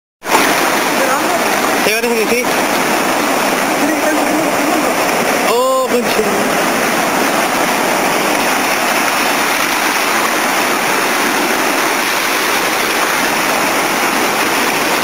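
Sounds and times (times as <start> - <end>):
seawater surging over rocks: 0.2 - 15.0.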